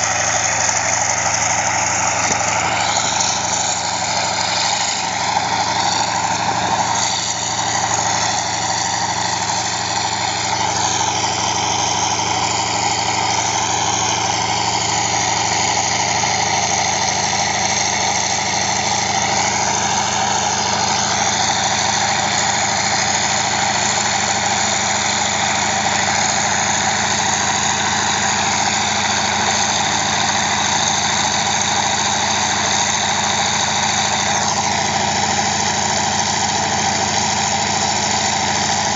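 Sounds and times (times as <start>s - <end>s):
plane piston engine idling: 0.0s - 38.9s.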